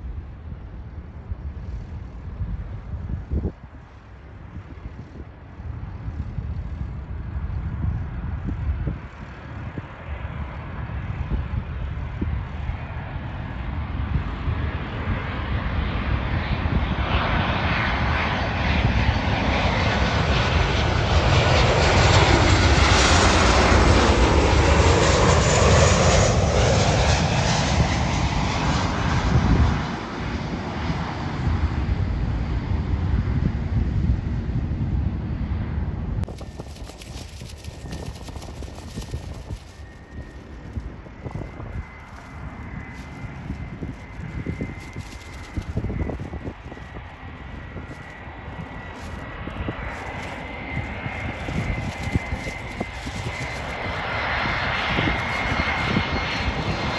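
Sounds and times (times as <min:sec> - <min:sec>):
jet engines passing overhead: 0:00.0 - 0:56.9
wind rumble on microphone: 0:00.0 - 0:56.9.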